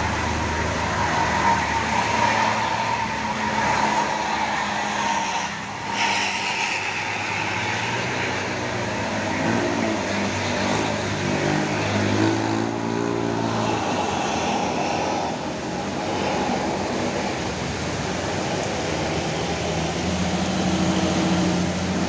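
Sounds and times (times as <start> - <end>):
diesel truck engine climbing: 0.0 - 6.0, 7.0 - 22.0
heavy rain hiss: 0.0 - 22.0
road noise: 0.0 - 22.0.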